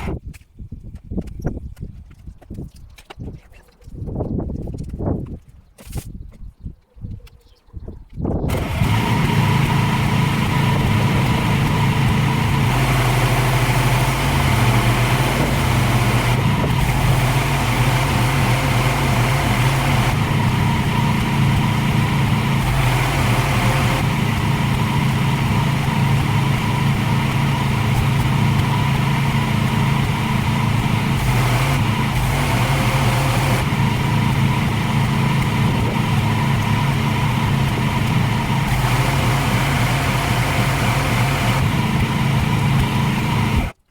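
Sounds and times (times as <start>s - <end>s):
pressure washer running: 8.5s - 43.9s.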